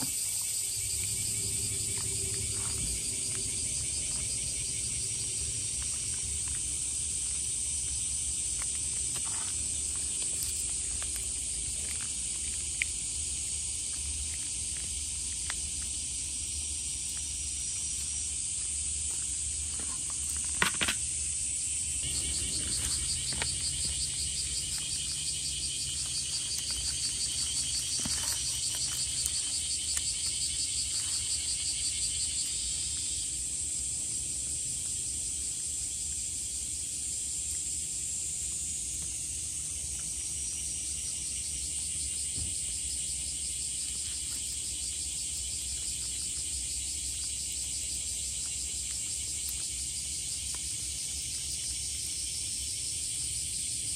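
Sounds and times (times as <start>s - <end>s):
chirring insects chorus: 0.0s - 53.9s
fast pulsing insect trill: 0.0s - 53.9s.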